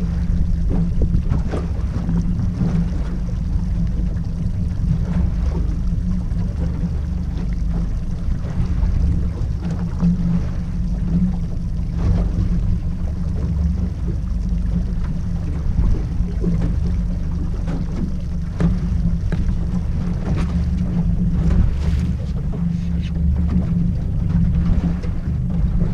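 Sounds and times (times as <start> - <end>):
outboard motor running: 0.0 - 25.9
wind on microphone: 0.0 - 25.9.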